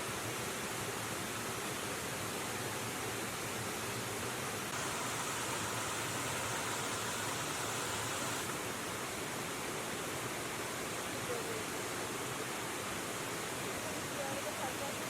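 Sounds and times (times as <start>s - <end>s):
river water rushing: 0.7s - 15.0s.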